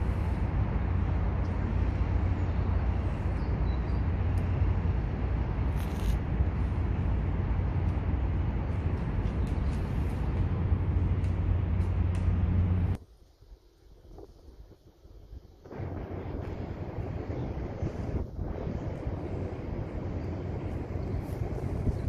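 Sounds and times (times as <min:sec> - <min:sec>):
low rumble of background noise: 0:00.0 - 0:22.0.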